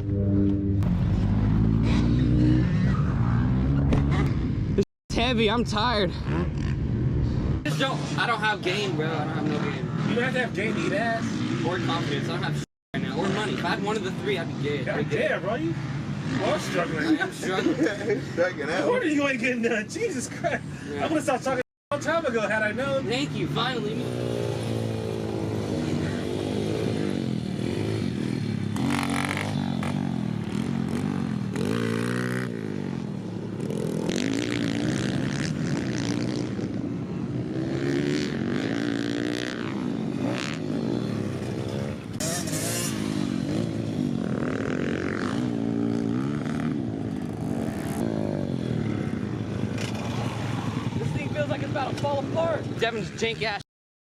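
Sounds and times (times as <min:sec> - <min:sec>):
dirt bike engine revving: 0:00.0 - 0:04.8, 0:05.6 - 0:17.8, 0:22.6 - 0:52.4.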